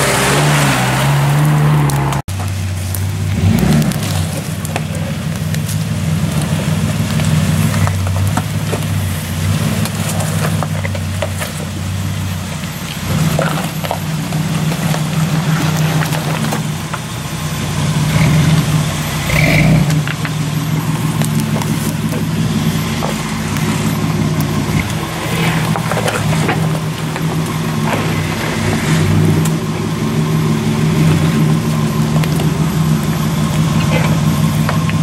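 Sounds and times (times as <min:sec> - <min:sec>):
car engine running at low speed: 0:00.0 - 0:35.0.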